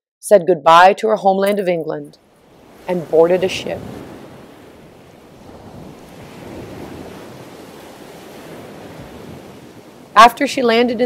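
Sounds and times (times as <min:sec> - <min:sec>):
ocean waves washing: 0:01.5 - 0:11.0.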